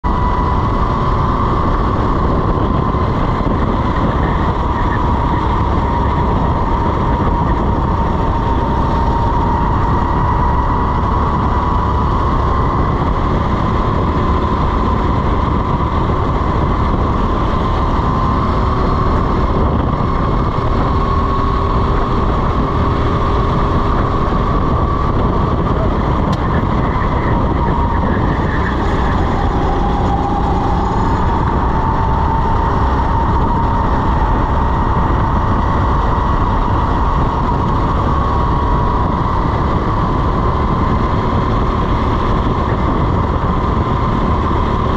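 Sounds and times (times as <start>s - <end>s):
go-kart engine whining: 0.0s - 44.9s.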